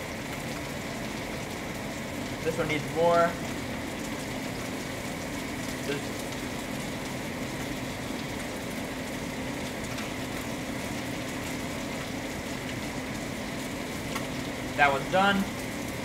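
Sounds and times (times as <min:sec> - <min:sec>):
chicken sizzling in skillet: 0:00.0 - 0:16.0.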